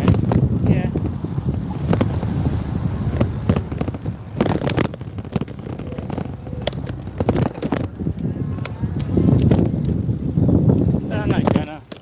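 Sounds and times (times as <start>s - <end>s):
motorbike rumble: 0.0s - 12.0s.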